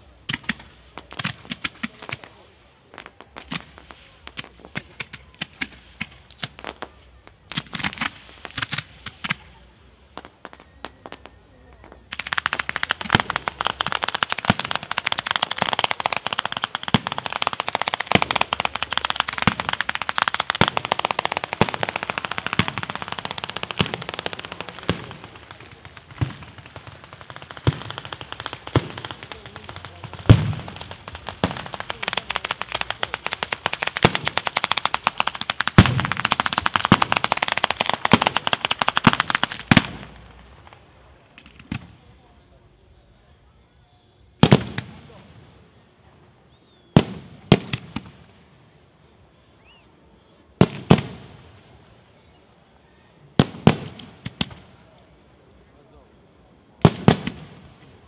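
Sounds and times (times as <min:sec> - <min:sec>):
fireworks bangs and crackles: 0:00.0 - 0:58.0
rapid rattle of fireworks: 0:00.0 - 0:58.0.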